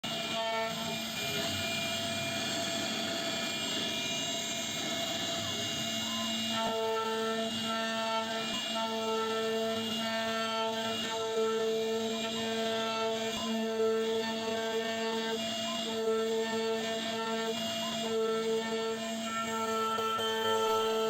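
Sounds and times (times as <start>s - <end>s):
router spindle whine carving wood: 0.0s - 21.0s.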